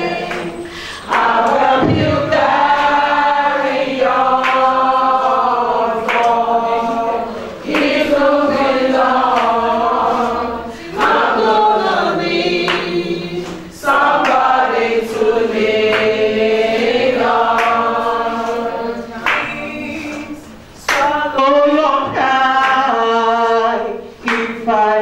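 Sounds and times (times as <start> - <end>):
women singing together: 0.0 - 25.0.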